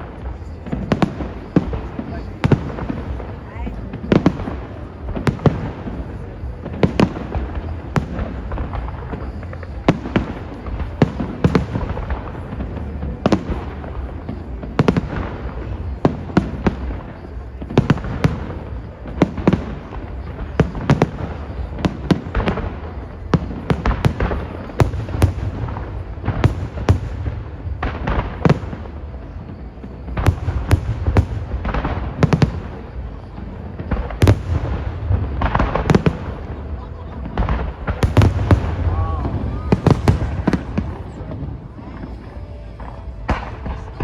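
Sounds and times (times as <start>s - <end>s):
fireworks bursting with sharp bangs: 0.0s - 44.0s.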